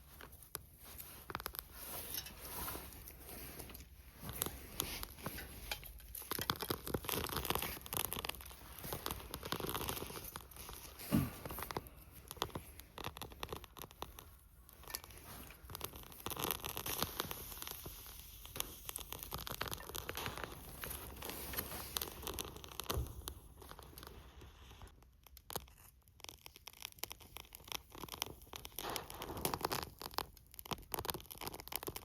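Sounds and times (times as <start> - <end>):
rustling and tearing handling noises: 0.0 - 32.0.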